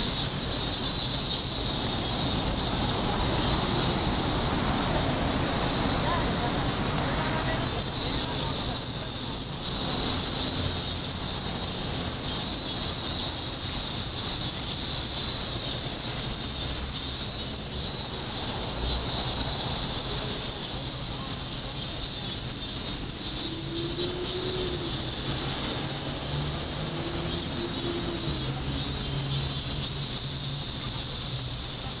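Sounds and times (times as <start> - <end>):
faint low city rumble: 0.0 - 31.9
cicadas chorus: 0.0 - 32.0.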